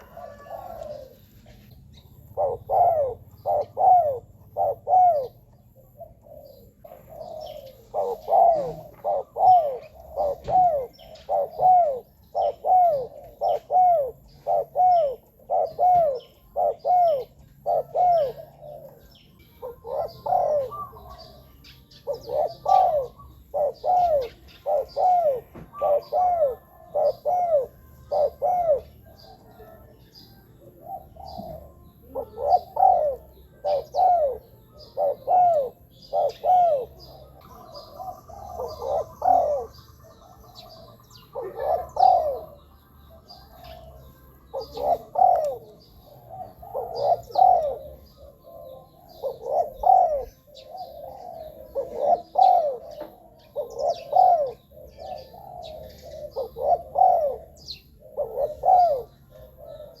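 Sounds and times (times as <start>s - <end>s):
dove cooing: 0.0s - 60.0s
small birds chirping: 0.0s - 60.0s.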